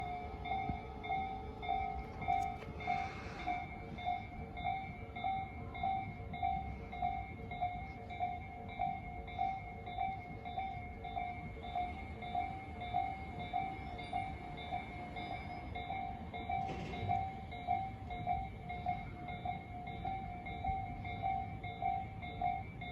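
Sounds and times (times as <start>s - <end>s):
level crossing warning bell: 0.0s - 22.9s.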